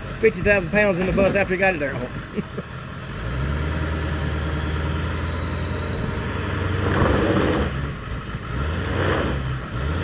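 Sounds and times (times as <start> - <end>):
truck engine running under load: 0.0 - 10.0.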